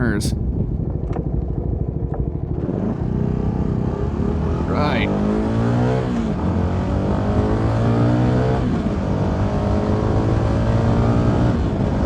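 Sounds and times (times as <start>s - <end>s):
motorcycle engine accelerating: 0.5s - 12.0s.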